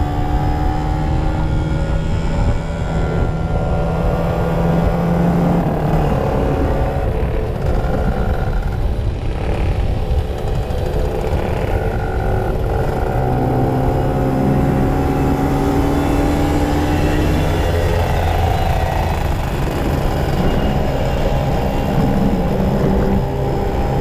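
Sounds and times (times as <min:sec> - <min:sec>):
two-stroke motorcycle engines: 0:00.0 - 0:24.0.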